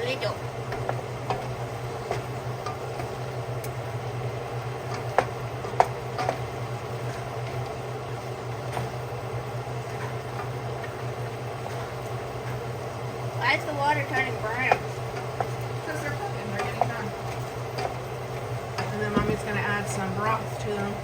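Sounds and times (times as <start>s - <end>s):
meat sizzling in a frying pan: 0.4s - 21.0s.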